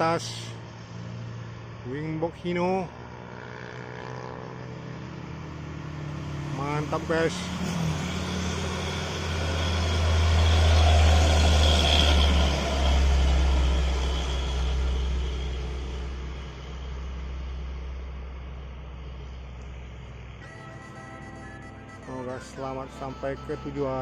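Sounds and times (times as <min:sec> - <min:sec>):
diesel truck engine climbing: 0:03.8 - 0:24.0.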